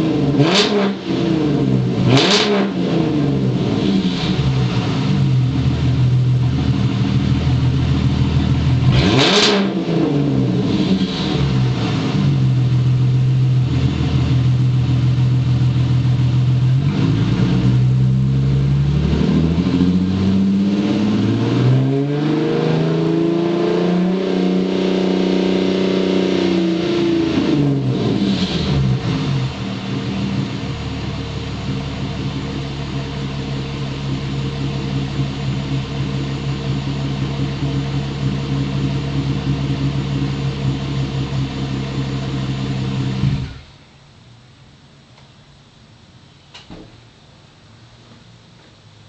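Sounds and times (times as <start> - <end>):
car engine revving: 0.0 - 43.7.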